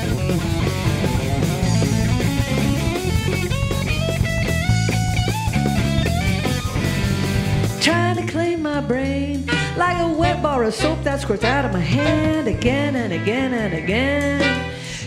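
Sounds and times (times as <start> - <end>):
live rock band playing: 0.0 - 8.6, 9.2 - 15.0
electric guitar: 0.0 - 15.0.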